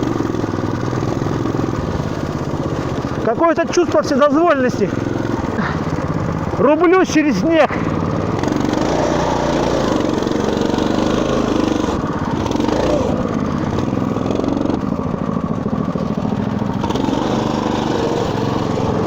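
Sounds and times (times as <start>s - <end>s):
off-road bike engine under load: 0.0s - 19.0s.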